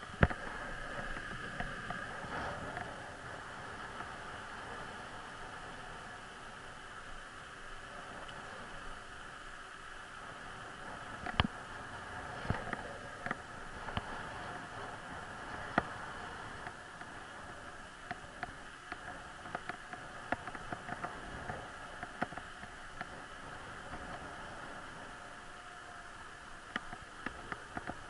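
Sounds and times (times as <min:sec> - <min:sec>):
bicycle tyre and air noise: 0:00.0 - 0:28.0.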